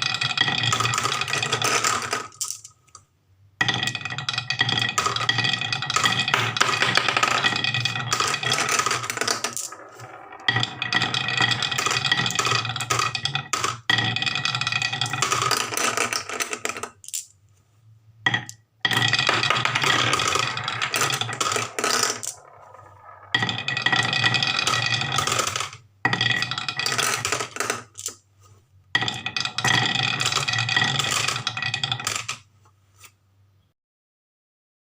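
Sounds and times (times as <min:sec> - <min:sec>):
marbles rattling down wooden run: 0:00.0 - 0:02.7, 0:03.6 - 0:17.3, 0:18.3 - 0:28.2, 0:29.0 - 0:32.5.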